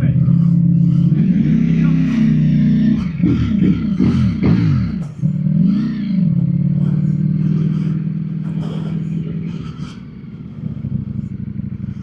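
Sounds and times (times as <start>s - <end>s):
motorcycle engine idling: 0.0s - 12.0s
motorcycle engine rev: 0.0s - 12.0s.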